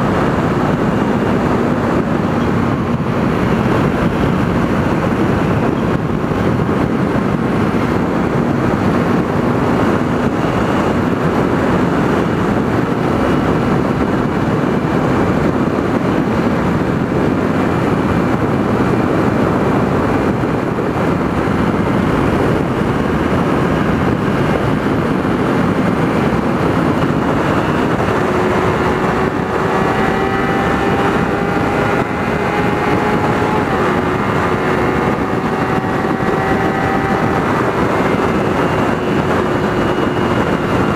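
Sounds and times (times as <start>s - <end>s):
motorcycle engine running: 0.0s - 40.9s
wind rush over microphone: 0.0s - 40.9s.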